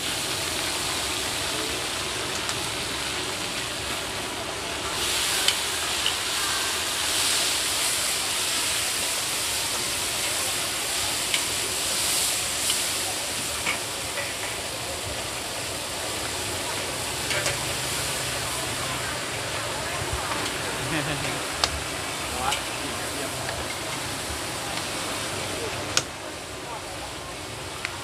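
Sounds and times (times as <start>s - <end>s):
pork sizzling in hot oil: 0.0s - 28.0s.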